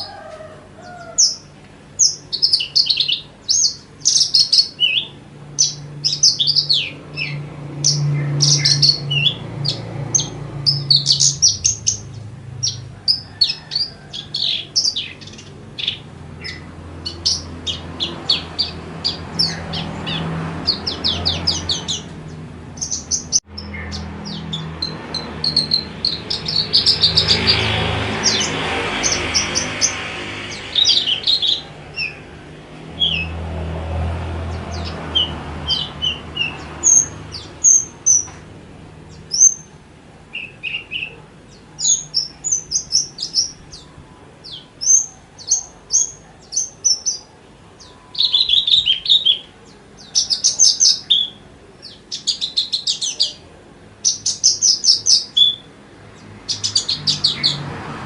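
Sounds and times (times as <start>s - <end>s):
bird singing high chirps and trills: 0.0s - 33.4s, 34.5s - 38.4s, 39.1s - 57.6s.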